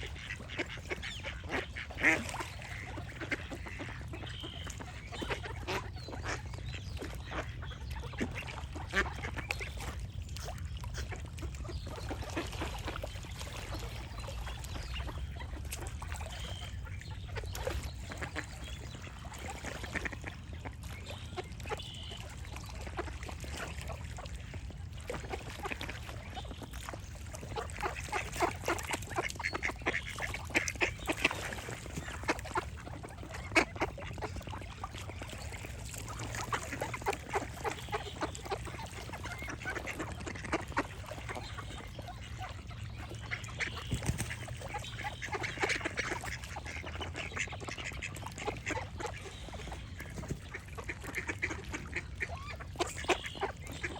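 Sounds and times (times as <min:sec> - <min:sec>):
ducks quacking: 0:00.0 - 0:24.4, 0:25.0 - 0:53.9.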